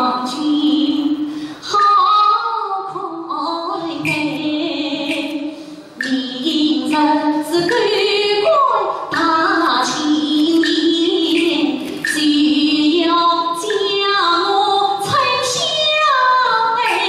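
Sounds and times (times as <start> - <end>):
woman singing opera: 0.0 - 17.0.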